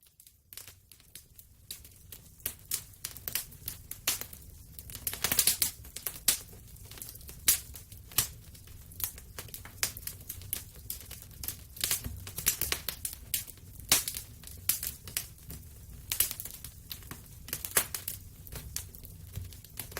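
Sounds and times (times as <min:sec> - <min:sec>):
burning wood popping and snapping: 0:00.5 - 0:19.9
low rumble of flames: 0:00.8 - 0:19.9.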